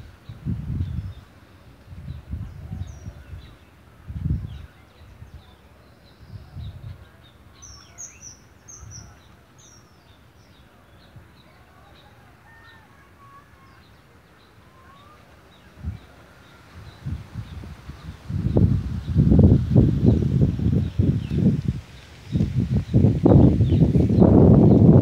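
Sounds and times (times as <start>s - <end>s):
faint outdoor background noise: 0.0s - 25.0s
wild birds chirping: 0.0s - 25.0s.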